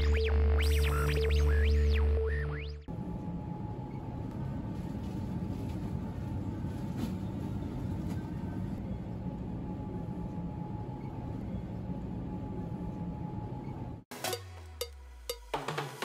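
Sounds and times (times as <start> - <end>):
refrigerator rumble and hum: 0.0 - 14.0.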